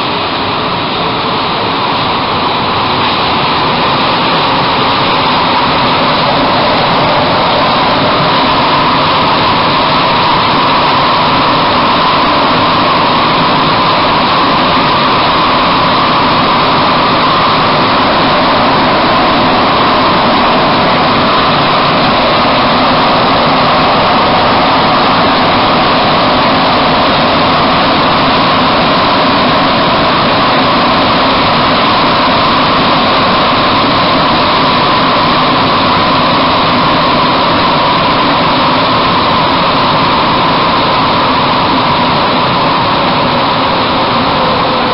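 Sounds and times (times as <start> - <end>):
metro car running in tunnel: 0.0 - 44.9.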